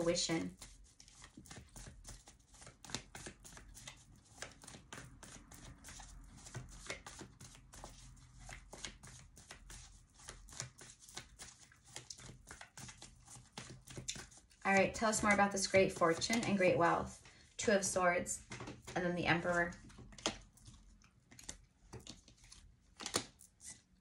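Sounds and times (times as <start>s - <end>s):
cards being shuffled: 0.6s - 17.2s, 18.4s - 23.9s.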